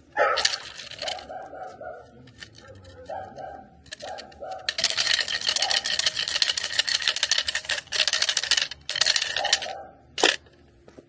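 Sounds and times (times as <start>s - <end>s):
clatter stick rattling: 0.2s - 1.4s, 2.0s - 10.5s.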